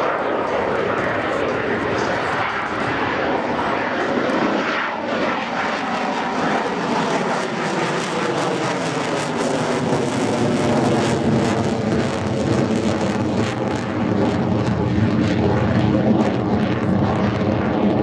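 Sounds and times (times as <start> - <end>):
jet engine on afterburner: 0.0 - 18.0.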